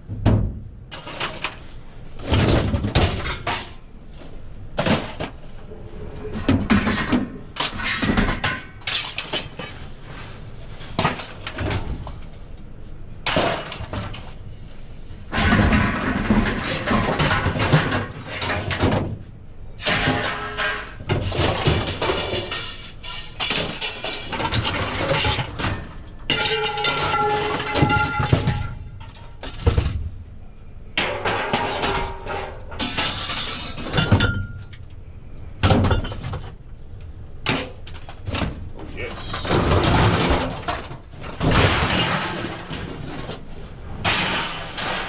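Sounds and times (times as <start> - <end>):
scrap metal crashing and clattering: 0.9 - 3.9, 4.8 - 5.5, 6.3 - 12.4, 13.2 - 14.4, 15.2 - 30.2, 31.0 - 34.8, 37.4 - 45.0.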